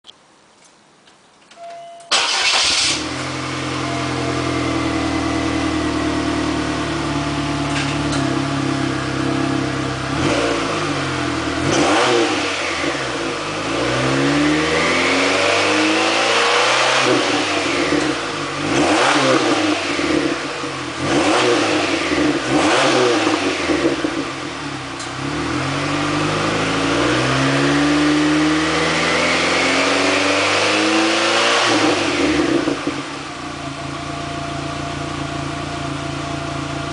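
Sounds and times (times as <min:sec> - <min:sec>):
car engine starting and idling: 0:01.4 - 0:36.9
car engine revving: 0:02.1 - 0:36.9.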